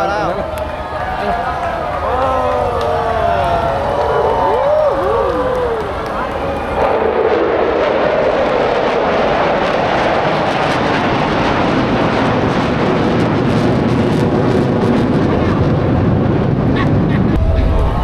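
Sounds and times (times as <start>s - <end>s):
fighter jets roaring overhead: 0.0s - 18.0s.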